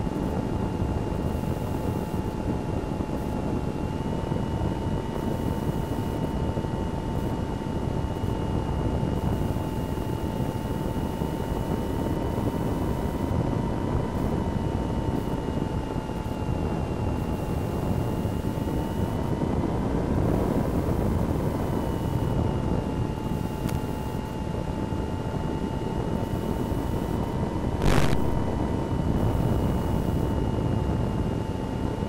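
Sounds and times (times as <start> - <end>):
electric motor whine: 0.0 - 32.0
wind on microphone: 0.0 - 32.0.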